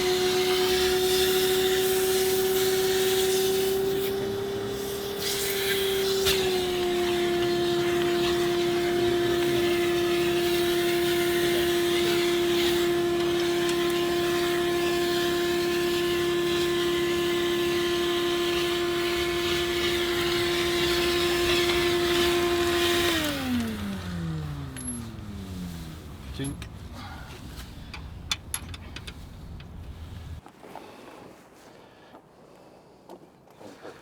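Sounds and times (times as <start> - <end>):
high-speed electric motor running: 0.0 - 30.4.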